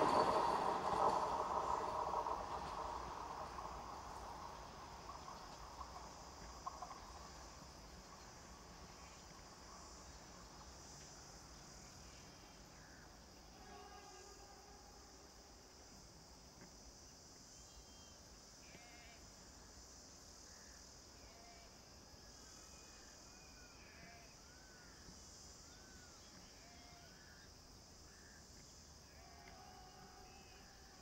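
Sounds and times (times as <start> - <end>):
faint high insect drone: 0.0 - 31.0.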